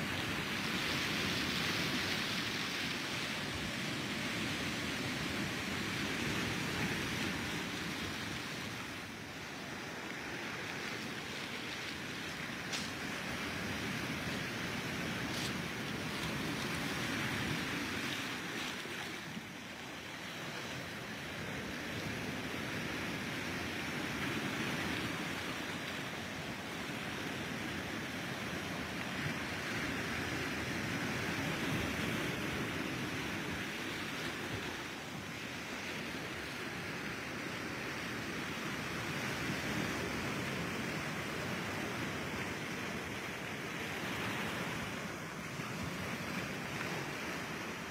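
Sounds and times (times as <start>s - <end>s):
small waves breaking on shore: 0.0s - 47.9s.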